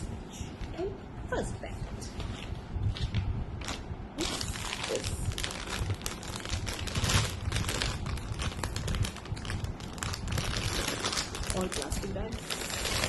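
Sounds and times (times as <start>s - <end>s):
plastic bags crinkling: 2.3s - 13.0s.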